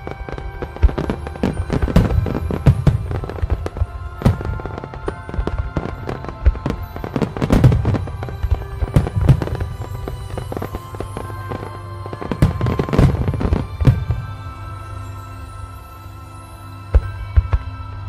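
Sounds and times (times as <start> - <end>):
firework bursts and bangs: 0.0 - 14.6
firework crackling: 0.0 - 18.0.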